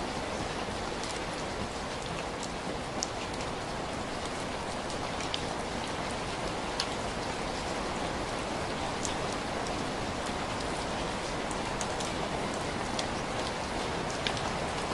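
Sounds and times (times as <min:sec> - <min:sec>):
steady rain: 0:00.0 - 0:14.9.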